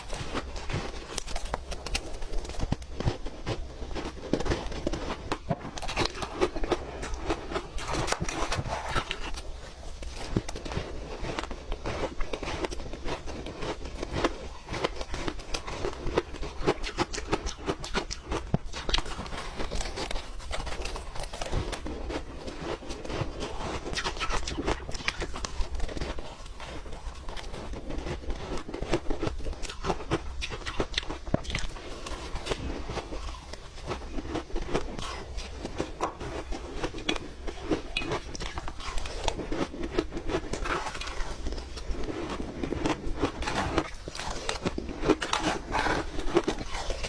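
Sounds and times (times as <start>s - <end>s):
ice being chewed: 0.0s - 47.0s.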